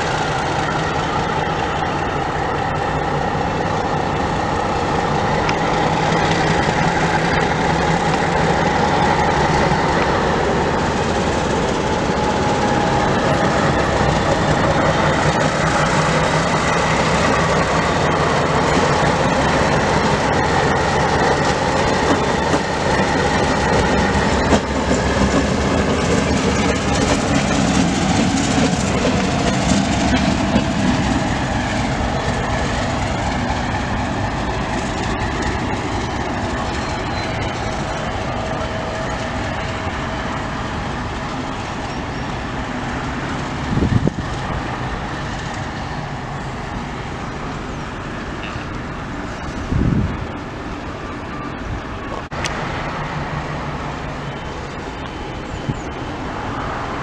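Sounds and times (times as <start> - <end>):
wheels clicking over rail joints: 0.0 - 53.1
diesel locomotive engine droning: 0.0 - 57.0.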